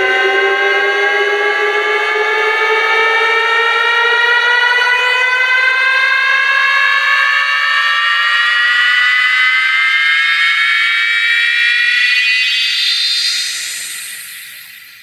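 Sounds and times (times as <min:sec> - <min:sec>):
rising test tone from speaker: 0:00.0 - 0:15.0.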